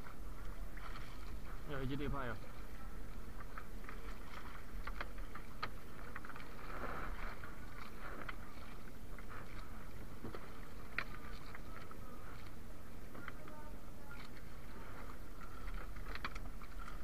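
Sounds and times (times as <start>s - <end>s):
water lapping around boat: 0.0s - 17.0s.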